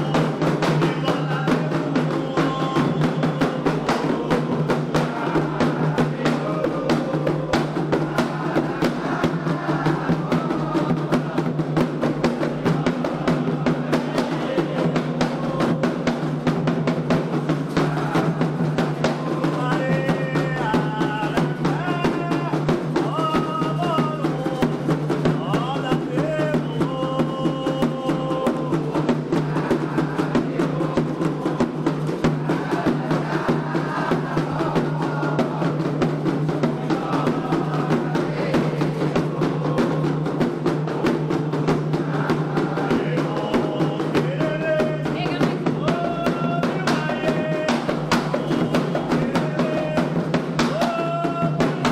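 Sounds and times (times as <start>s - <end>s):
group singing: 0.0s - 51.9s
hand drums fast rhythm: 0.0s - 51.9s.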